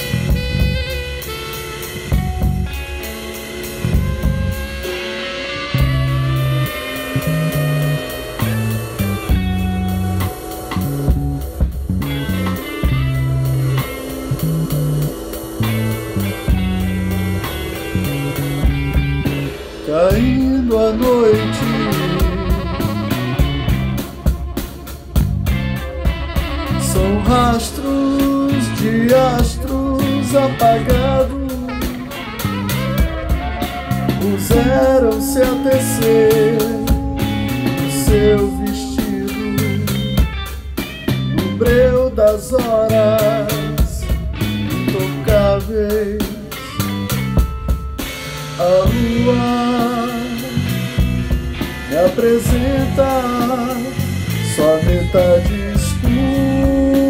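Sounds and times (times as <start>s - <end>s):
bass guitar: 0.0s - 57.0s
drum kit beat: 0.0s - 57.0s
electric guitar melody: 0.0s - 57.0s.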